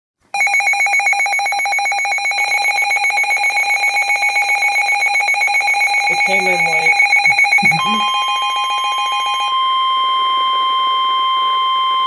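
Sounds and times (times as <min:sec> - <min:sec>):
harsh two-tone alarm: 0:00.4 - 0:12.0.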